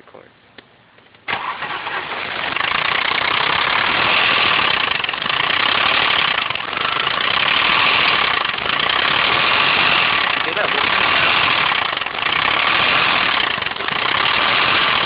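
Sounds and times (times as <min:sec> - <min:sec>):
car engine running: 0:01.4 - 0:15.0.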